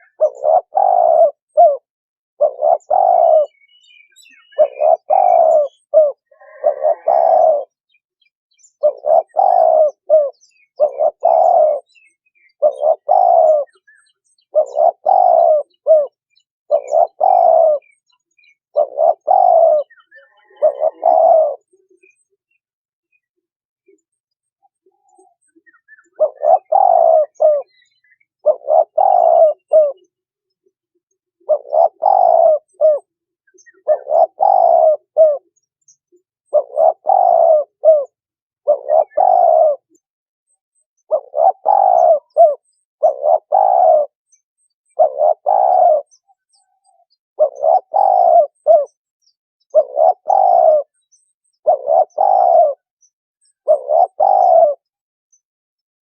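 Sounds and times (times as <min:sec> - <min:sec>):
dove cooing: 0:00.0 - 0:08.0, 0:08.6 - 0:22.3, 0:24.6 - 0:30.3, 0:31.2 - 0:40.1, 0:41.0 - 0:49.0, 0:49.7 - 0:52.9, 0:53.6 - 0:55.0.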